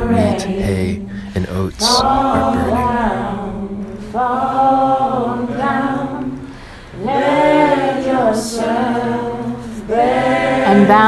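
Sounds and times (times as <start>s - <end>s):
voices singing a cappella: 0.0s - 11.0s.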